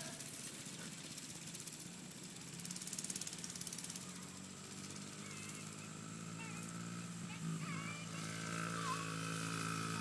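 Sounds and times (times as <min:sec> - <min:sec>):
small bike engine running: 0:00.0 - 0:10.0.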